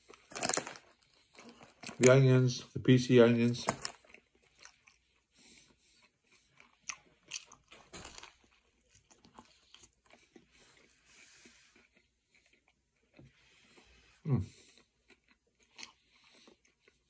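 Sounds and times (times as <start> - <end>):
chewing with crunches: 0.0 - 2.3, 3.6 - 17.0.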